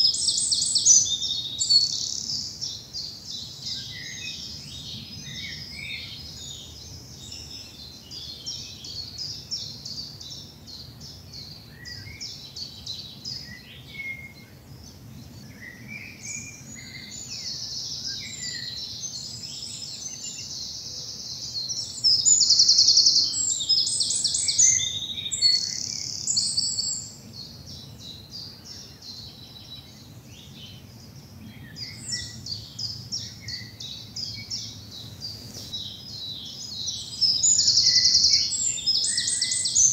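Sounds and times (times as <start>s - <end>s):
close bird singing fast runs: 0.0s - 39.9s
songbirds chirping and trilling: 0.0s - 39.9s.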